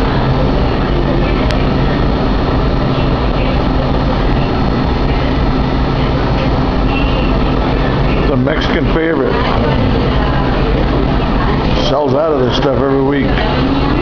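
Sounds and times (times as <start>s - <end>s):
loud mechanical hum: 0.0s - 14.0s.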